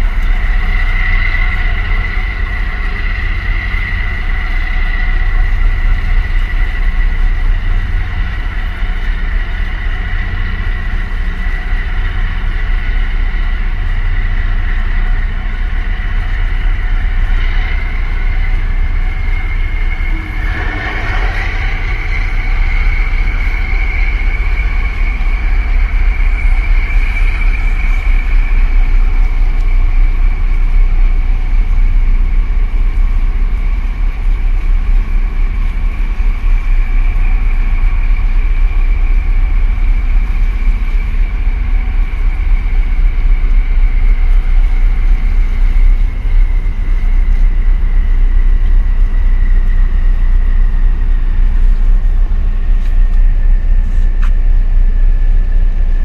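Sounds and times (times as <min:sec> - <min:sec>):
high whine sinking in pitch: 0:00.0 - 0:56.0
low ship engine rumble: 0:00.0 - 0:56.0.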